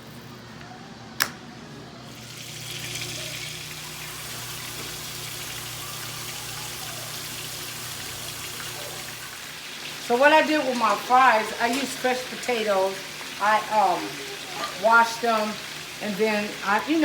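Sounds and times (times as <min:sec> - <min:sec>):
onions sizzling in a skillet: 0:02.1 - 0:17.0.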